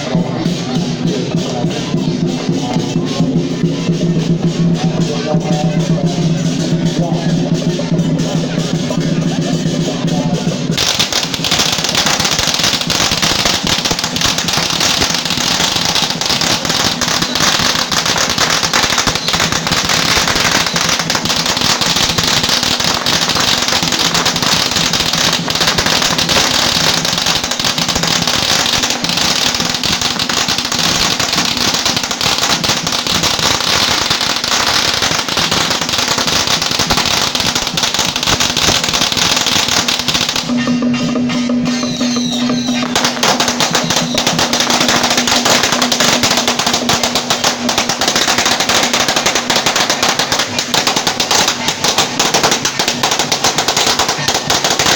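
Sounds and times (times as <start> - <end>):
firecrackers crackling: 0.0 - 54.9.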